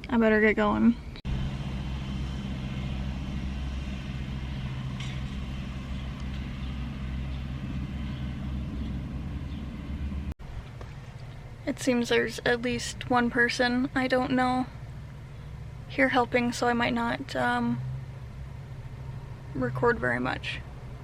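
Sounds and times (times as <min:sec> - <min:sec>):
car engine and road noise: 0:01.0 - 0:21.0.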